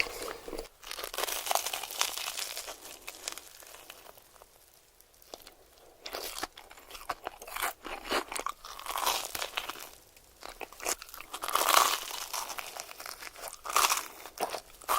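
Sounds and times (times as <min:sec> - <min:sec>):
crunchy food being chewed: 0:00.0 - 0:14.9.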